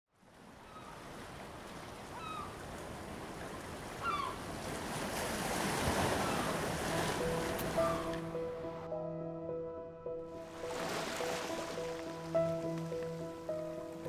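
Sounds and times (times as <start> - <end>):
surf washing on shore: 0.3 - 8.3, 10.5 - 14.0.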